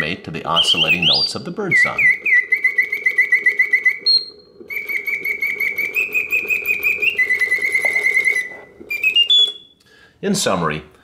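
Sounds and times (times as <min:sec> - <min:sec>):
mechanical bird whistling trills: 0:00.6 - 0:09.8.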